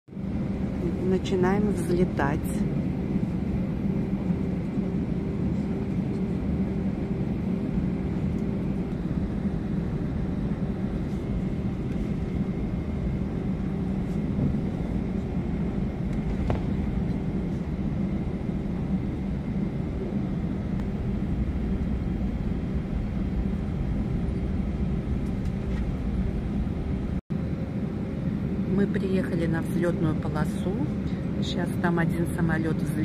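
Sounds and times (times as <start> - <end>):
faint steady whine: 0.1 - 33.0
jet engines rumbling: 0.1 - 33.0.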